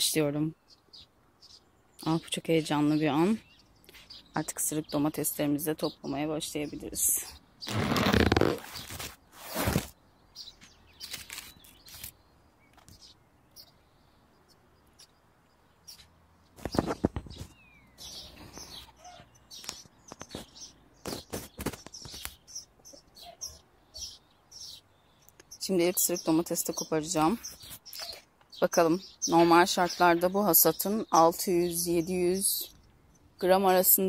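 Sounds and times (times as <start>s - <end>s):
leaves rustling against microphone: 2.0s - 13.2s, 15.8s - 24.8s, 25.4s - 32.7s.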